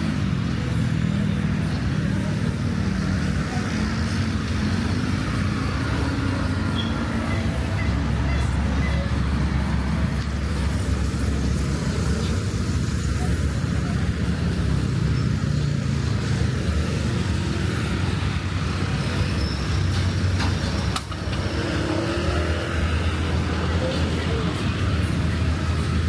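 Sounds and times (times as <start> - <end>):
traffic engines rumbling: 0.0 - 26.0.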